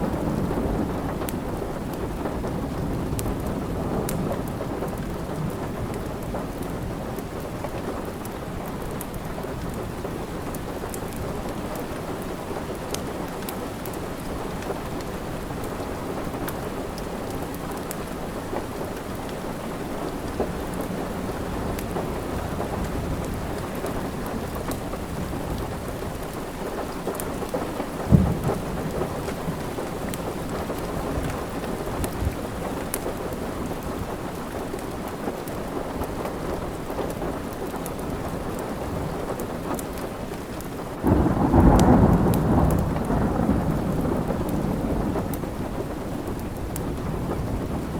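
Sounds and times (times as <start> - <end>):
steady rain: 0.0 - 47.9
wood fire crackling: 4.5 - 43.1.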